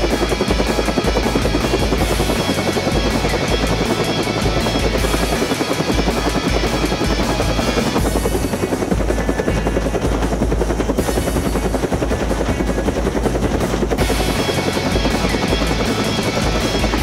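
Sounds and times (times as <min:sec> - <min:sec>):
helicopter hovering overhead: 0:00.0 - 0:17.0.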